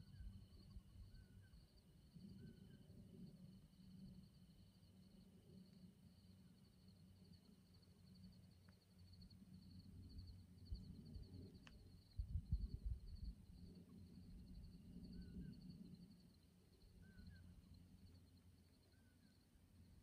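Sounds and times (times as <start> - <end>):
night insects trilling: 0.0 - 19.5.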